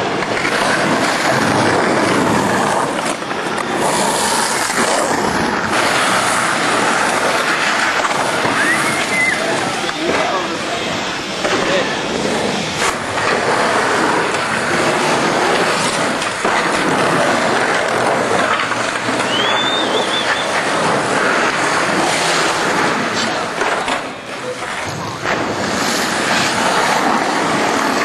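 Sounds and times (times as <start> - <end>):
skateboard wheels rolling on concrete: 0.0 - 28.0.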